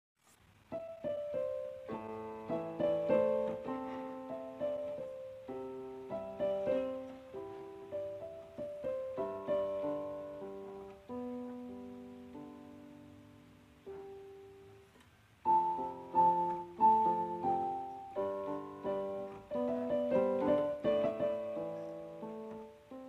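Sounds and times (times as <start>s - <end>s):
piano music: 0.7s - 23.0s.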